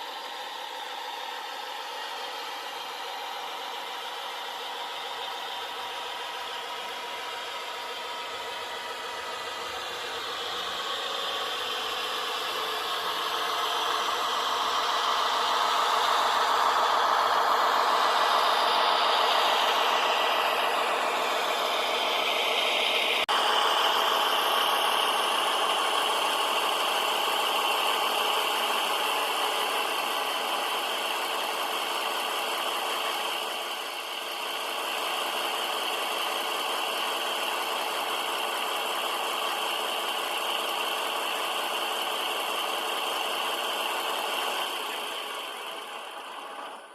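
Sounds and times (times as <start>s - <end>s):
model train motor hum: 0.0s - 46.9s.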